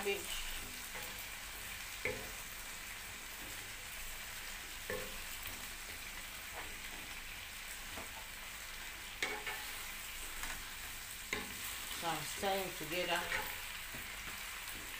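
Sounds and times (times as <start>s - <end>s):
vegetables sizzling in frying pan: 0.0s - 14.9s.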